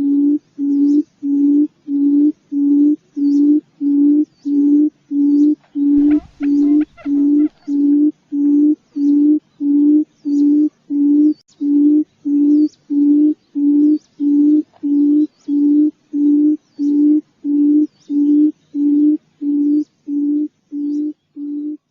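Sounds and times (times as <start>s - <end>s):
faint high chirps: 0.0s - 21.8s
low hooting quail call: 0.0s - 21.9s.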